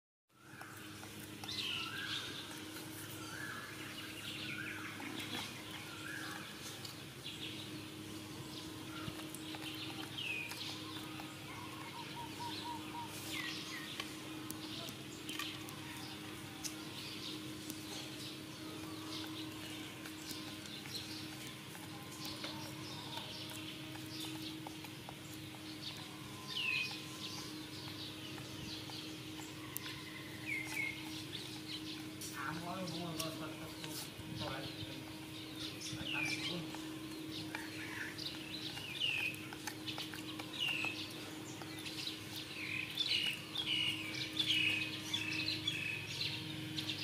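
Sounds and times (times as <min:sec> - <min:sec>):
birds chirping and calling: 0:00.3 - 0:47.0
steady low hum: 0:00.3 - 0:47.0.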